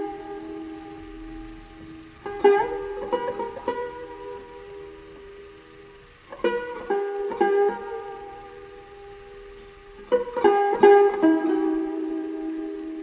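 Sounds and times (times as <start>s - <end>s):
plucked lute notes: 0.0s - 13.0s.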